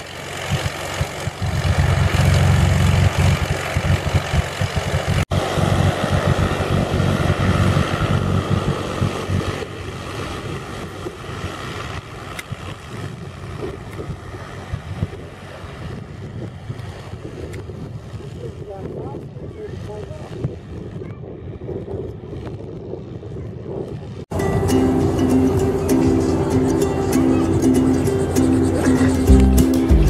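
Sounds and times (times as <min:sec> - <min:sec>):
propeller aircraft engine: 0:00.0 - 0:30.0
wind buffeting microphone: 0:00.0 - 0:30.0.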